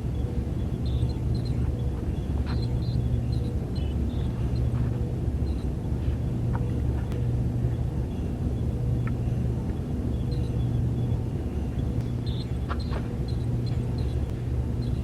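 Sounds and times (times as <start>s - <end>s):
low electronic hum: 0.0s - 15.0s.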